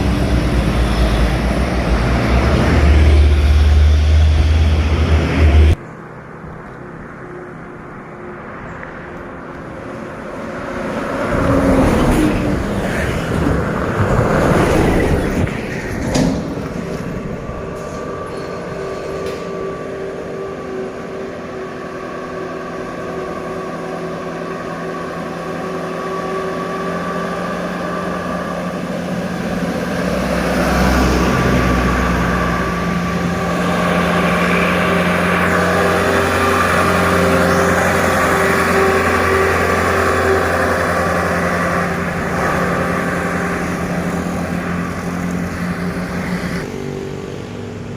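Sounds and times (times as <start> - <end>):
diesel truck engine under load: 0.0 - 5.9, 9.2 - 47.9
vehicle passing: 0.0 - 47.9.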